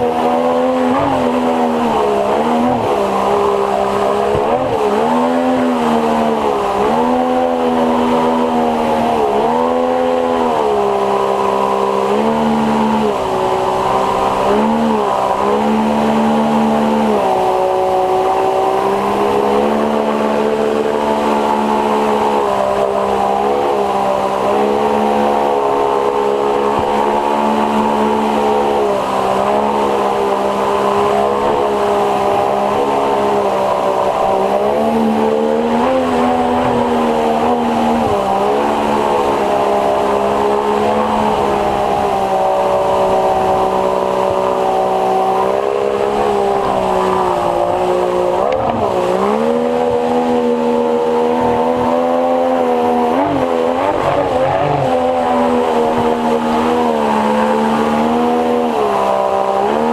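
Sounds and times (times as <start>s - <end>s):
outboard motor running hard: 0.0s - 59.9s
water rushing: 0.0s - 59.9s.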